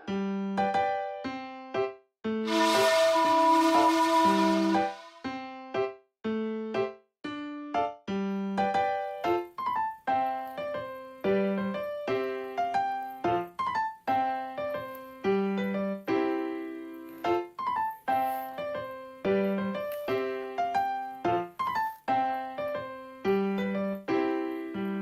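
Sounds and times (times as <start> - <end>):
keyboard melody: 0.0 - 25.0.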